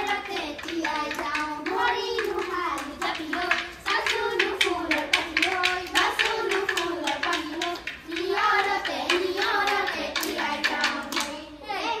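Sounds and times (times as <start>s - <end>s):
rhythmic hand claps: 0.0s - 11.6s
child singing a chant: 0.0s - 12.0s.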